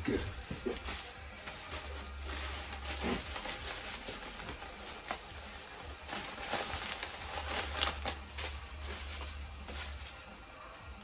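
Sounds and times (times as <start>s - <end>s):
paper wrapping rustling: 0.1s - 11.0s.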